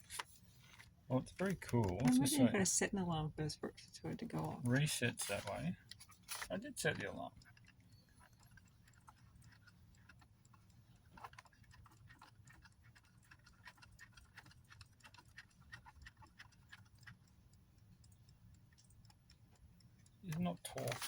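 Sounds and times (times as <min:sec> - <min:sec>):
clock ticking: 0:01.6 - 0:21.0.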